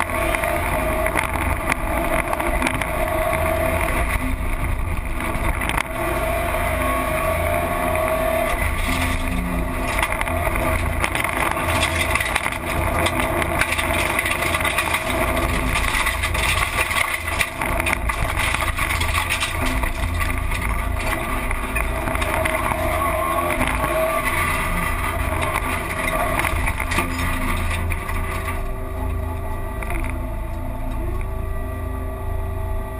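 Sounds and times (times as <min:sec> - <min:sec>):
car engine under load: 0:00.0 - 0:32.9
road and tyre noise: 0:00.0 - 0:32.9.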